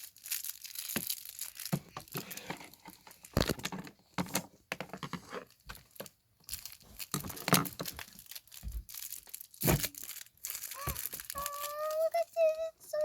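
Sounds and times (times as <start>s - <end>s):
packaging crinkling and tearing: 0.0s - 3.7s, 5.4s - 13.0s.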